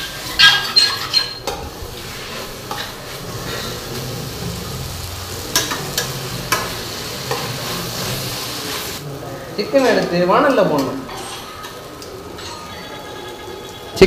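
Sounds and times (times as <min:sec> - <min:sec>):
onions and tomatoes sizzling: 0:00.0 - 0:14.0.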